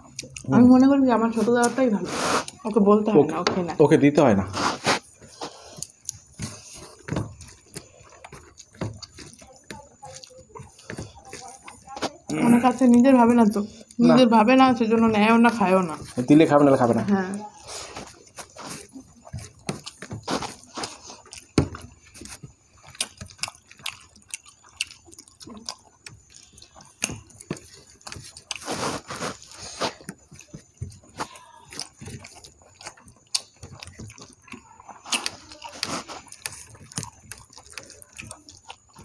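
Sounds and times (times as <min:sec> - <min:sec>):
chewing and lip-smacking: 0:00.0 - 0:02.9, 0:04.8 - 0:14.2, 0:15.2 - 0:39.0.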